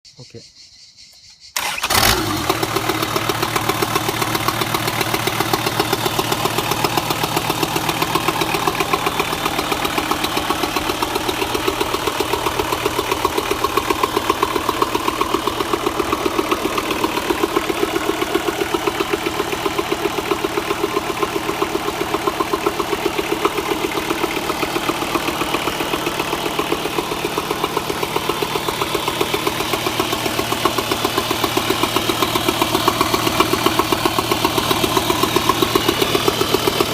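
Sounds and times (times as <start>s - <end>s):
diesel engine idling: 1.6s - 36.9s.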